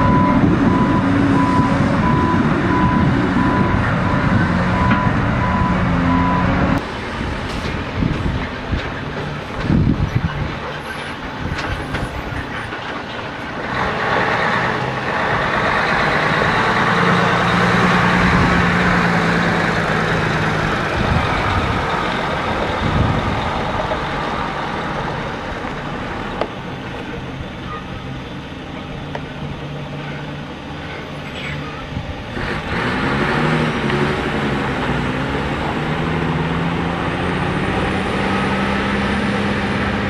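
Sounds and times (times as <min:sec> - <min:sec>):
truck diesel engine driving past: 0:00.0 - 0:09.5, 0:13.5 - 0:40.0.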